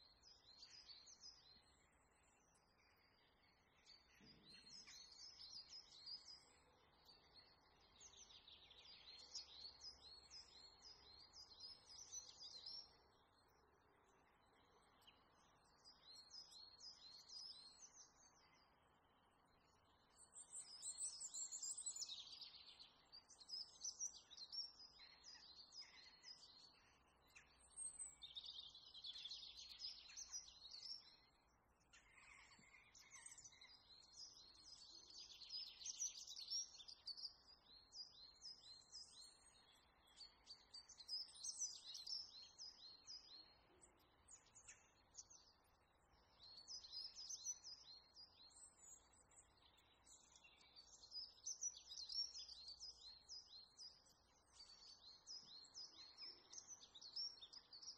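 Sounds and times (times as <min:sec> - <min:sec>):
small birds twittering: 0:00.0 - 0:57.9.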